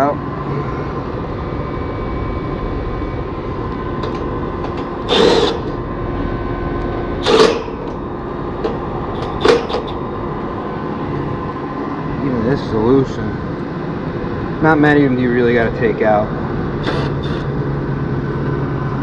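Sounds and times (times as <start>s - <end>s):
steady background drone: 0.0s - 19.0s.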